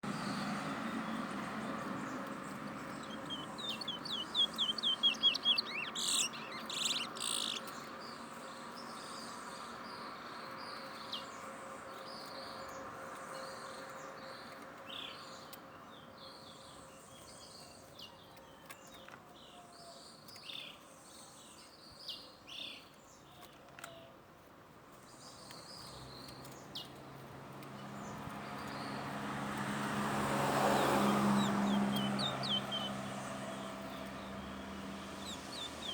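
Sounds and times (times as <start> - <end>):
songbird chirping: 0.0 - 35.9.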